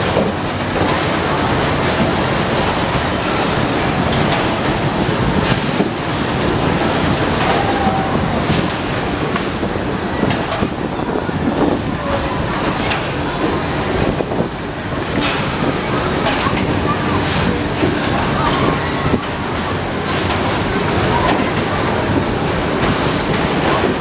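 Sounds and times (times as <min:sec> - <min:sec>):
carnival ride rumble and rattle: 0:00.0 - 0:24.0.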